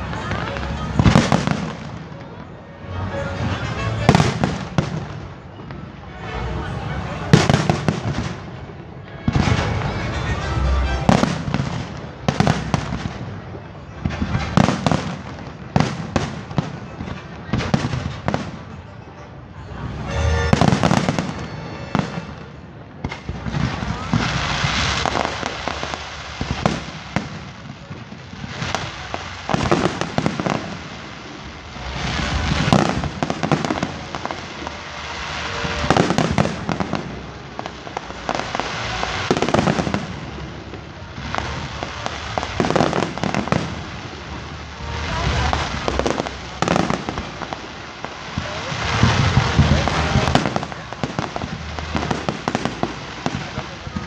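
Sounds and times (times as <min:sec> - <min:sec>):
firework crackling: 0:00.0 - 0:54.0.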